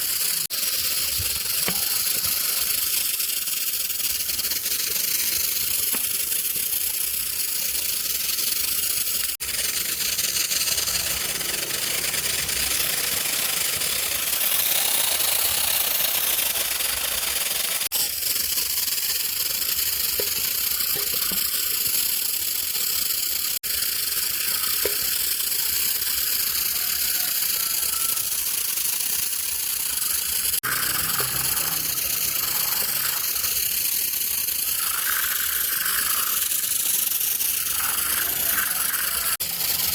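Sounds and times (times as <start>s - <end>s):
cleaning tool spraying hiss: 0.0s - 39.9s.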